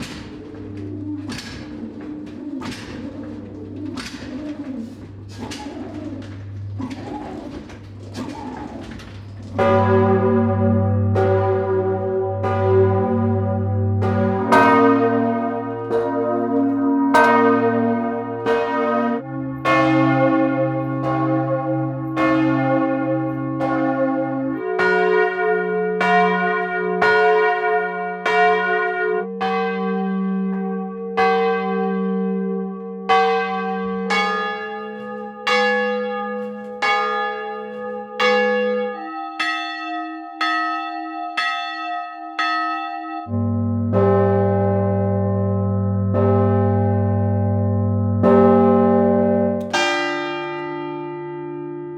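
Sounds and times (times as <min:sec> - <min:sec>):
bells ringing: 0:00.0 - 0:51.6.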